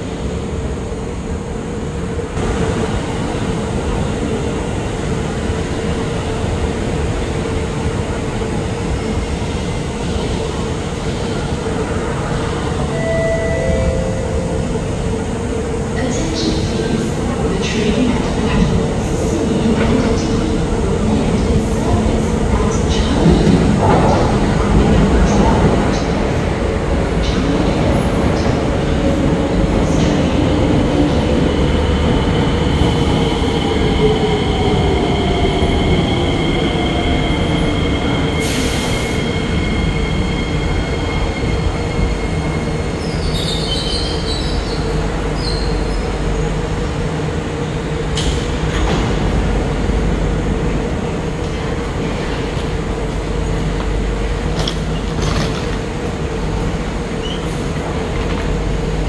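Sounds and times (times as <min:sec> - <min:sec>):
steady train hum: 0:00.0 - 0:59.0.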